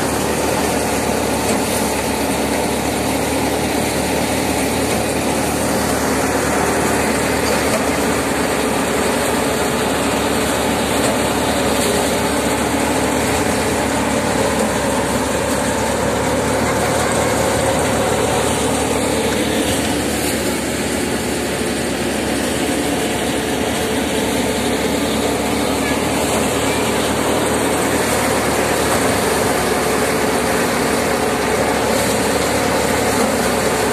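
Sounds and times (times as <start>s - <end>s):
motorised thresher running: 0.0s - 33.9s.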